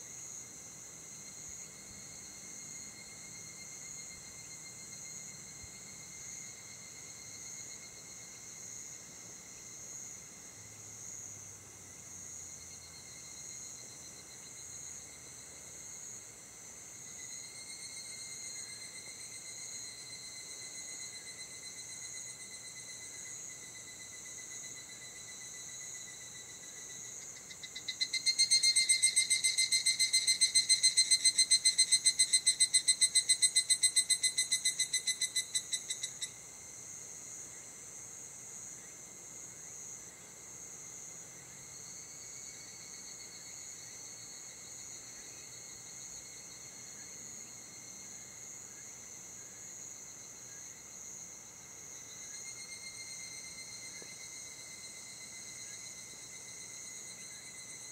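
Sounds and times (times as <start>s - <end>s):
high-pitched insect chorus: 0.0s - 57.9s
loud pulsing insect trill: 0.0s - 57.9s.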